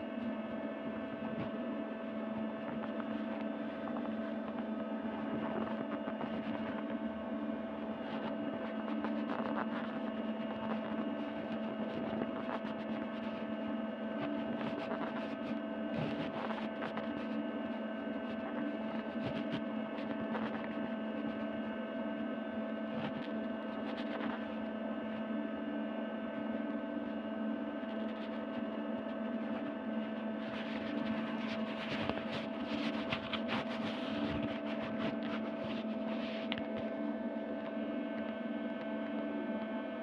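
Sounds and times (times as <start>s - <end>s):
steady hum of held tones: 0.0s - 40.0s.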